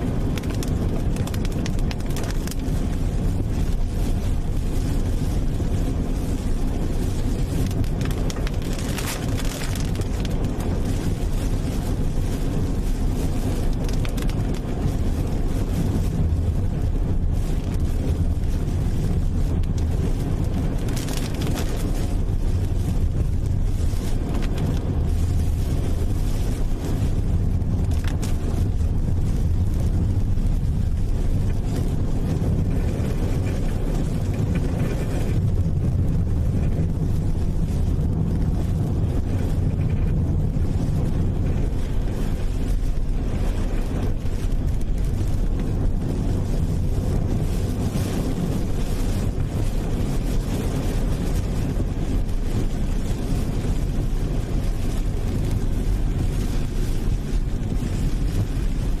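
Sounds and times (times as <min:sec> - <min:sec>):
low rumbling noise: 0:00.0 - 0:59.0.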